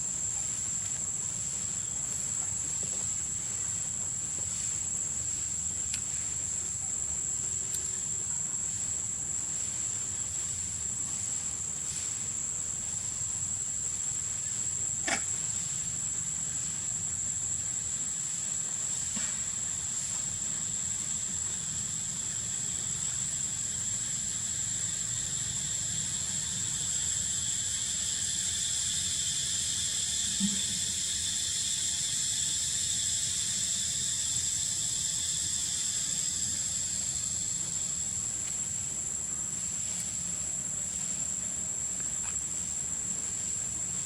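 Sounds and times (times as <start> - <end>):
high-pitched insect drone: 0.0 - 44.0
lower insect buzz: 4.5 - 44.0.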